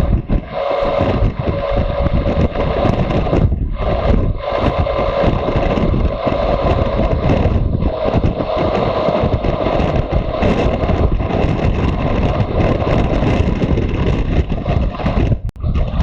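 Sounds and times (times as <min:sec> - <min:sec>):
wind rush over microphone: 0:00.0 - 0:16.0.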